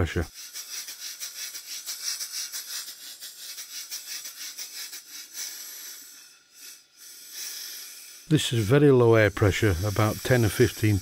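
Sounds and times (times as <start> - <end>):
steam engine exhaust puffing: 0.3 - 11.0.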